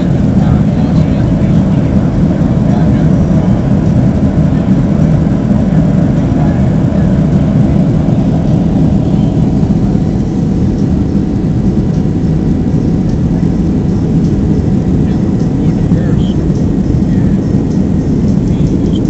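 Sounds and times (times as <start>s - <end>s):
airplane engines roaring: 0.0s - 19.0s.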